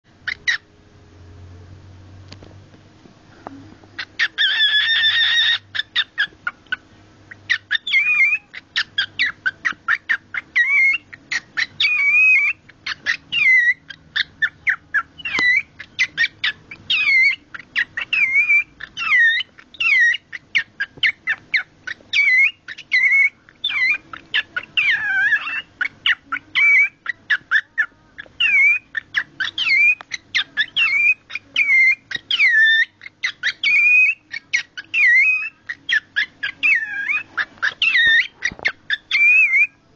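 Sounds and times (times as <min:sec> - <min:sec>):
cockatiel buzzy call: 0:04.0 - 0:06.6, 0:07.5 - 0:39.8
cockatiel clicks and chirps: 0:07.5 - 0:39.7.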